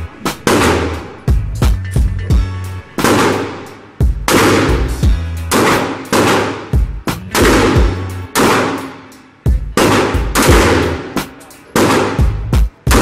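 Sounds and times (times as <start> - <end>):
gunshots with echo: 0.2 - 1.4, 3.0 - 13.0.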